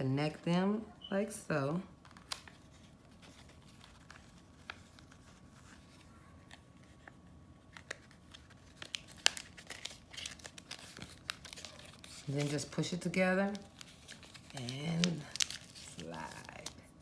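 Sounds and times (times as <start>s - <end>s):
paper crinkling and rustling: 2.0s - 17.0s.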